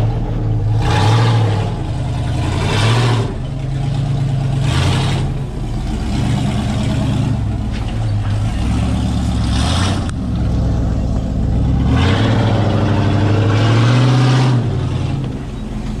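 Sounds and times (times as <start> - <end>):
buggy engine revving: 0.0 - 16.0.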